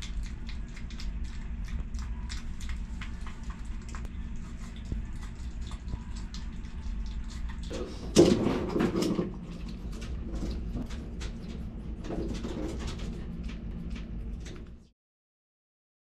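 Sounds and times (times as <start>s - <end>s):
animal eating with crunches: 0.0s - 14.9s.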